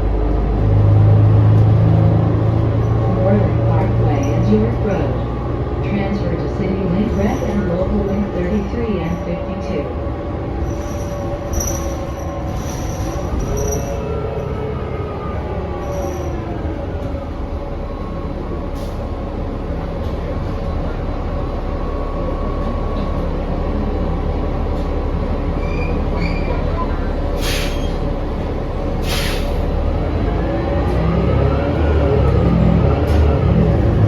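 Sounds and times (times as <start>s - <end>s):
bus drivetrain rumble: 0.0s - 34.0s.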